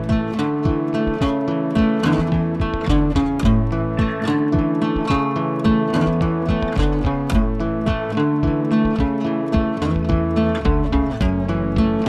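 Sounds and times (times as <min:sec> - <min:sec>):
acoustic guitar piece: 0:00.0 - 0:12.0.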